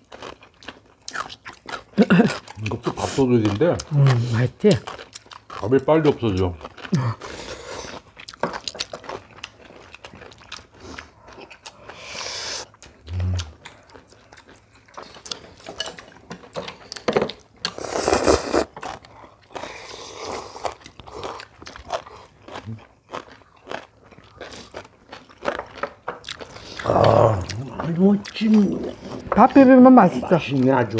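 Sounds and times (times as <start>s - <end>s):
people chewing food: 0.0s - 30.9s.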